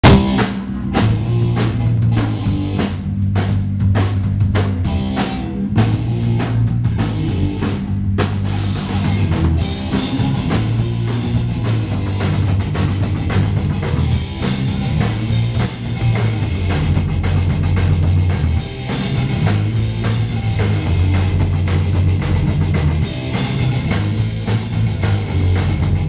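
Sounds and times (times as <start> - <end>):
bass guitar: 0.0 - 26.0
drum kit beat: 0.0 - 26.0
electric guitar: 0.0 - 26.0.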